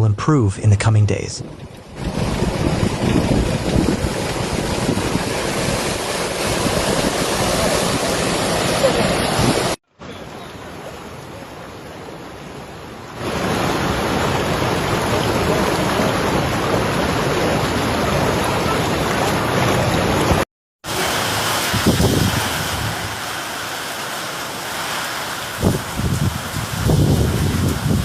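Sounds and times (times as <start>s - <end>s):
flowing water rushing: 1.9s - 28.0s.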